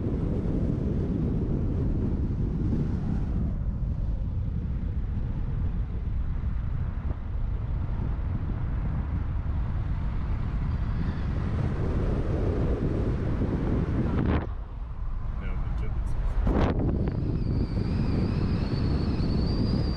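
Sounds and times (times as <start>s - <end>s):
road and wind noise: 0.0s - 19.9s.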